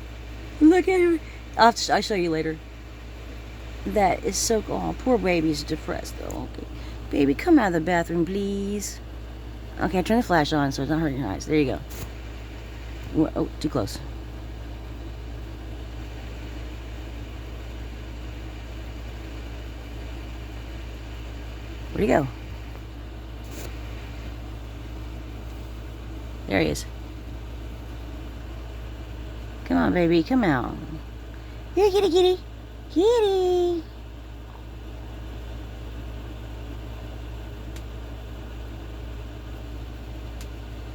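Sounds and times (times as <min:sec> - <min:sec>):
low hum of machinery: 0:00.0 - 0:40.9.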